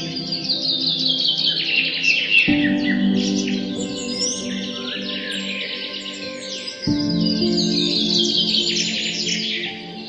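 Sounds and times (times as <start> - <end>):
bird chirping: 0.0 - 10.0
soft background music: 0.0 - 10.0.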